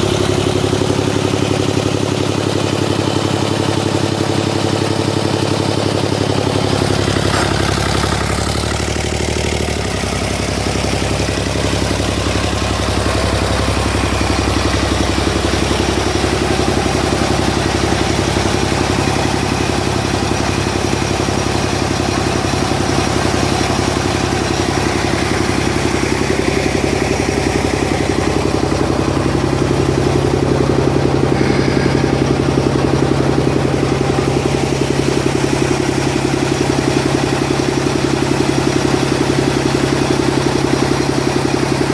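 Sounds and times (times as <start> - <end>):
engine running with clatter: 0.0 - 41.9.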